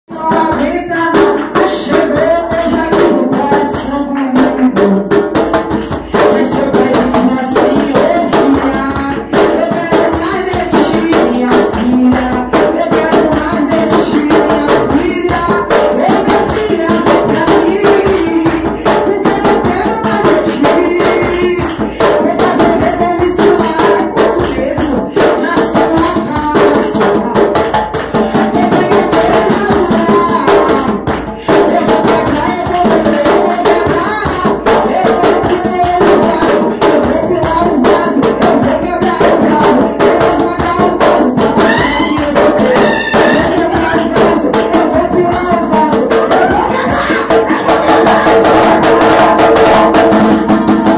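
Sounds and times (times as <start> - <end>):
tambourine shaken and struck: 0.1 - 50.9
voices singing: 6.1 - 27.4, 28.2 - 49.6.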